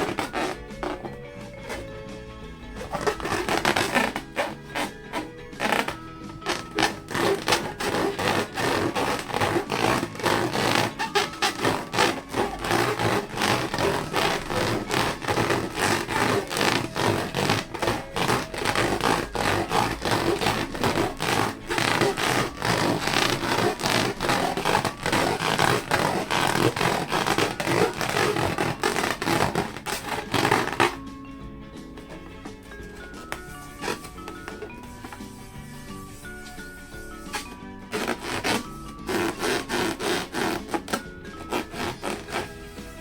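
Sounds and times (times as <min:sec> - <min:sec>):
balloons rubbed by hand: 0:00.0 - 0:31.2, 0:31.8 - 0:43.0.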